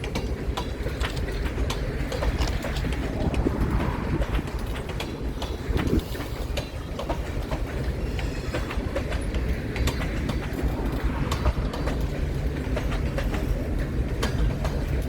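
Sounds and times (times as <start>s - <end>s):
train wheels rumbling on rail: 0.0s - 15.0s
wheels clacking over rail joints: 0.0s - 15.0s.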